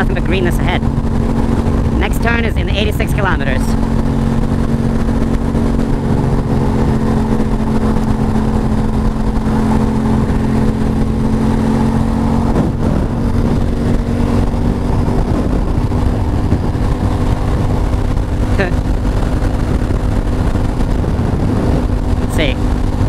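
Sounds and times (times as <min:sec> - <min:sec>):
motorcycle engine cruising: 0:00.0 - 0:23.0
wind rumble on microphone: 0:00.0 - 0:23.0.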